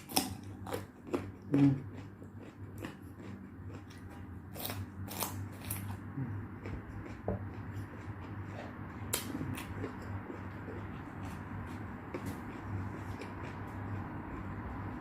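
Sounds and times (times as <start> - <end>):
low steady hum: 0.0 - 15.0
person chewing: 0.0 - 15.0.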